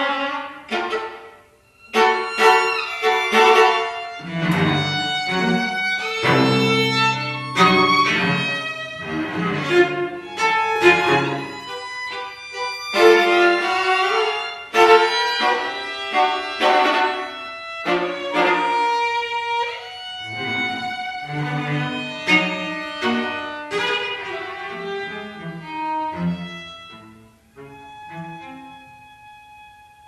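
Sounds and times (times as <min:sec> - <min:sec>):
cello low notes: 0:00.0 - 0:30.0
string trio bowed chords: 0:00.0 - 0:30.0.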